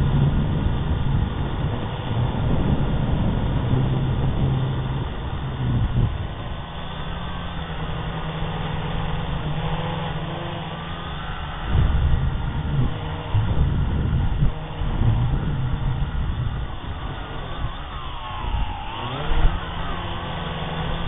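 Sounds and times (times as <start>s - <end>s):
steady low hum: 0.0s - 21.0s
wind buffeting microphone: 0.0s - 21.0s
toy drone propellers whirring: 0.1s - 21.0s.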